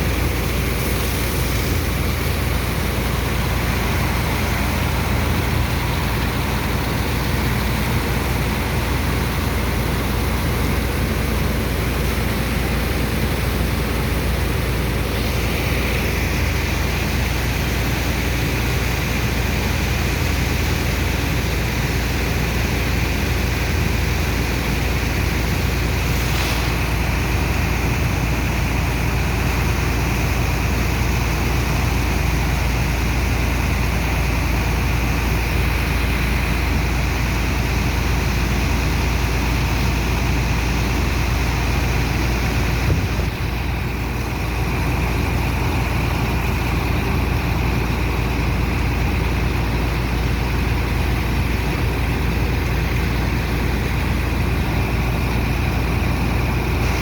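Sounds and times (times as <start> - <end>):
dredger engines rumbling: 0.0 - 57.0.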